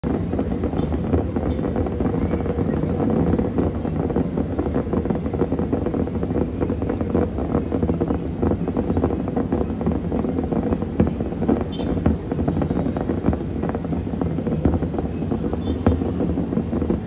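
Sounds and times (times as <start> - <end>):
distant fireworks popping: 0.0 - 17.0
wind buffeting microphone: 0.0 - 17.0.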